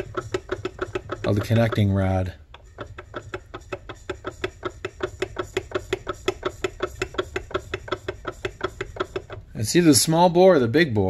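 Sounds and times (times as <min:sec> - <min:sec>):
metallic clacking of engine rod: 0:00.0 - 0:10.0.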